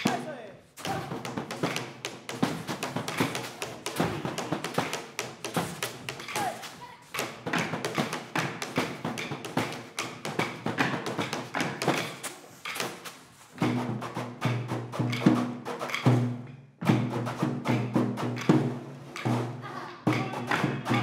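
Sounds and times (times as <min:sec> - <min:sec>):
wooden sticks clacking: 0:00.0 - 0:13.8, 0:14.5 - 0:16.2, 0:18.2 - 0:19.4, 0:20.1 - 0:21.0.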